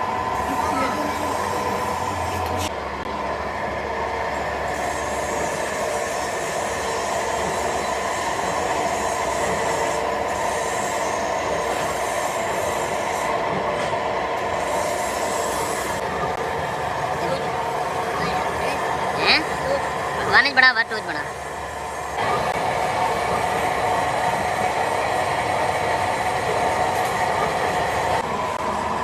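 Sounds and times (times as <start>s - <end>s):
factory machinery running: 0.0s - 29.0s.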